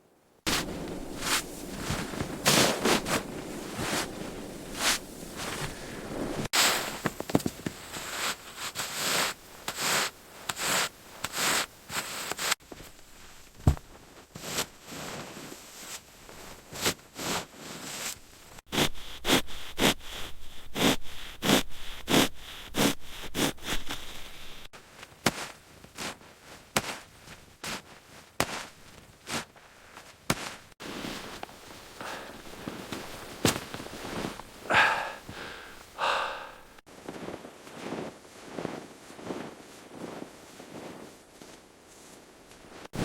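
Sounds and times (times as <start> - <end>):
snow crunching: 0.5 - 24.7, 26.8 - 43.0.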